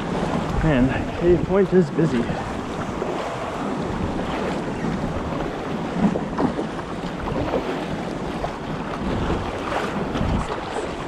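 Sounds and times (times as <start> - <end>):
water splashing against kayak: 0.0 - 11.0
wind buffeting microphone: 0.0 - 11.0.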